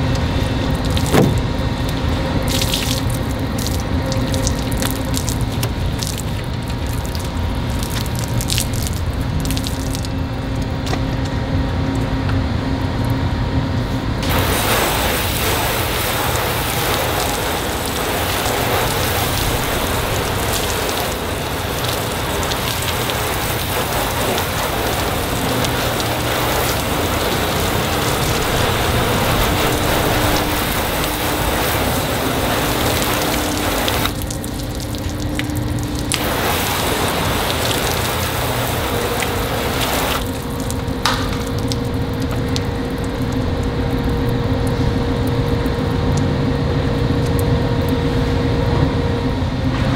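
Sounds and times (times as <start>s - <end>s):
hose spraying water on a car: 0.0s - 10.6s, 14.2s - 44.8s.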